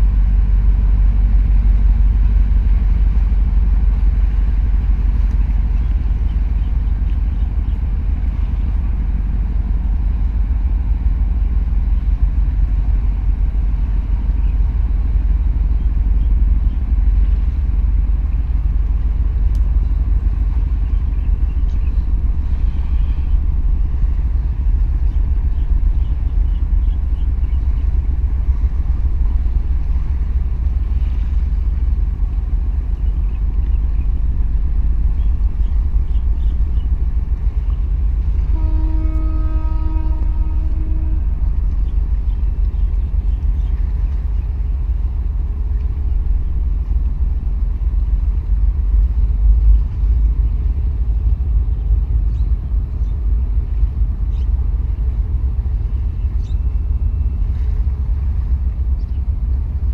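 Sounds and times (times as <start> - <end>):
ship low rumble: 0.0 - 59.9.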